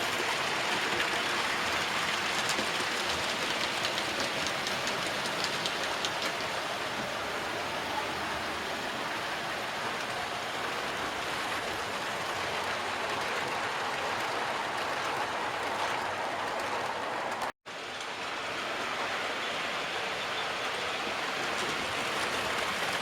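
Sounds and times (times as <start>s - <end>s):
model train wheels on track: 0.0s - 23.0s.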